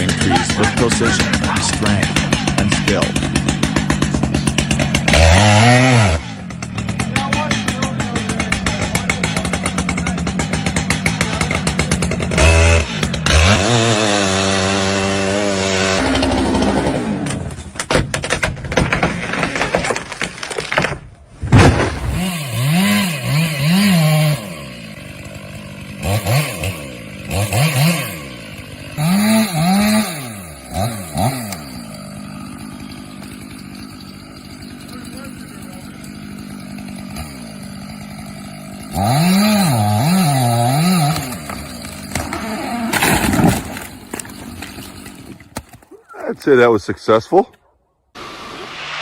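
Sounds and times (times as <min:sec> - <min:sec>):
chainsaw running and cutting: 0:00.0 - 0:17.8, 0:21.8 - 0:45.8, 0:48.2 - 0:49.0.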